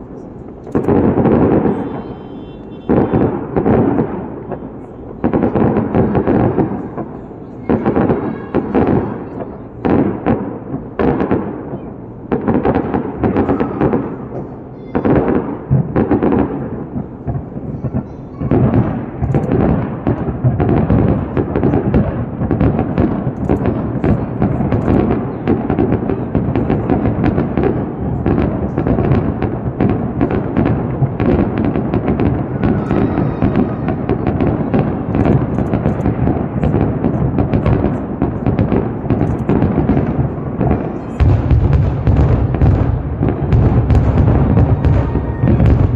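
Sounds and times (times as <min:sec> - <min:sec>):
fireworks booming: 0:00.0 - 0:45.9
rapid firework bangs and crackling: 0:00.0 - 0:45.9.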